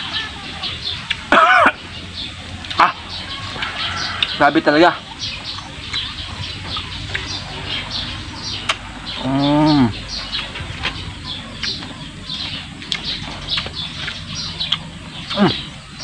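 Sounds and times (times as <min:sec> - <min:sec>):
low drawn-out hum-like call: 0:00.0 - 0:16.0
small birds chirping: 0:00.0 - 0:16.0.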